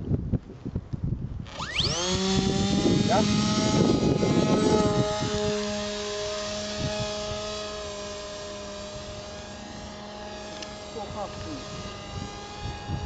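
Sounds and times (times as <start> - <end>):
model plane motor whining: 1.4 - 13.0.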